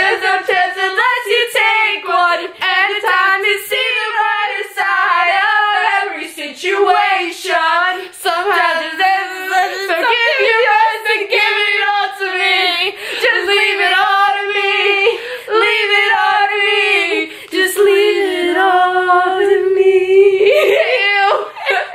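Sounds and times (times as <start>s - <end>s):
girls singing together: 0.0s - 21.9s.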